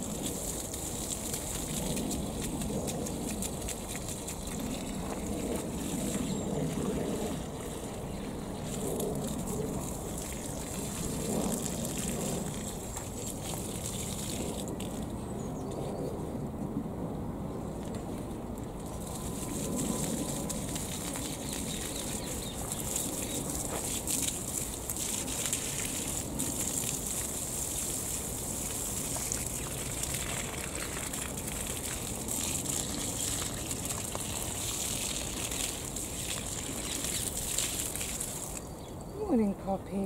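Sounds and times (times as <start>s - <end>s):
watering can pouring water: 0.0s - 15.5s, 18.8s - 38.8s.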